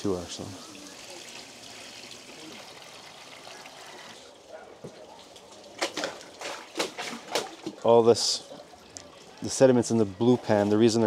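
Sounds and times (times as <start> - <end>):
water trickling over sluice: 0.0 - 11.0.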